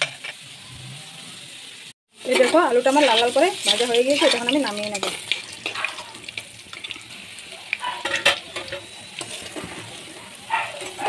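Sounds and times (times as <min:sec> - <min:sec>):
potatoes sizzling in oil: 0:00.0 - 0:11.0.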